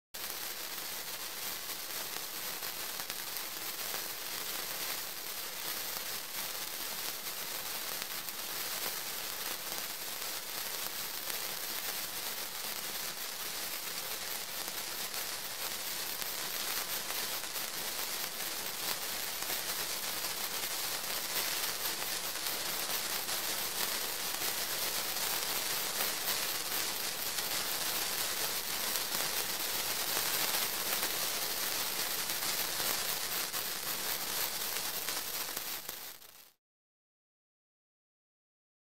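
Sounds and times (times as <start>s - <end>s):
sparklers crackling and hissing: 0.2s - 36.6s.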